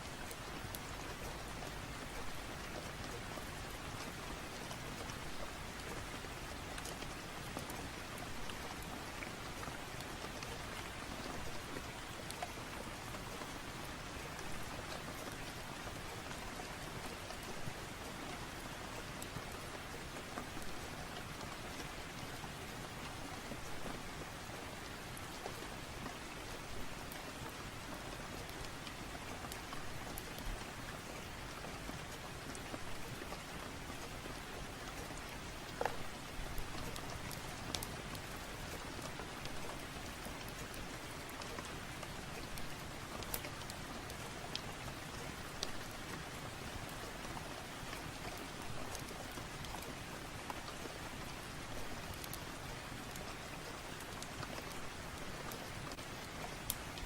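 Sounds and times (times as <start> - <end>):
steady rain falling: 0.0 - 57.0
fireplace fire crackling: 0.1 - 57.0.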